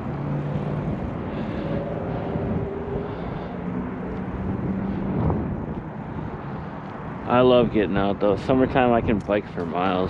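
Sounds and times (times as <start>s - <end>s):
engine rumble: 0.0s - 10.0s.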